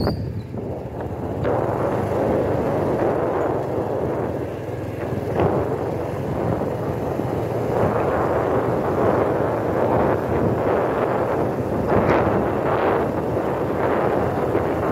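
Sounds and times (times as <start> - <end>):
vehicle road noise: 0.0 - 14.9
wind on microphone: 0.0 - 14.9.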